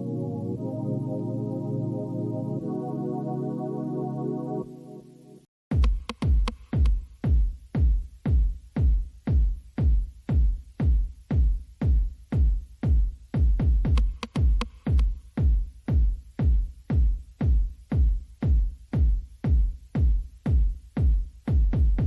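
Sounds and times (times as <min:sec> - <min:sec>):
electronic music with drum machine: 0:00.0 - 0:22.0.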